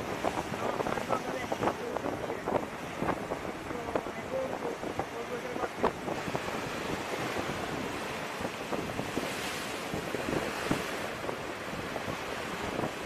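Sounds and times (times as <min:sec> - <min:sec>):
waves washing: 0:00.0 - 0:13.0
wind buffeting microphone: 0:00.0 - 0:13.0.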